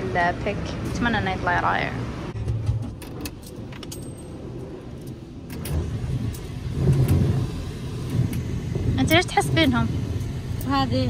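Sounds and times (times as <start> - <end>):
low rumbling: 0.0 - 11.0.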